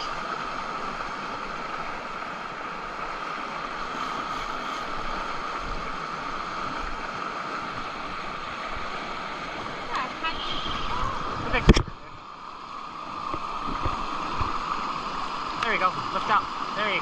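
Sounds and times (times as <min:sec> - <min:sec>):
river rushing against rocks: 0:00.0 - 0:17.0.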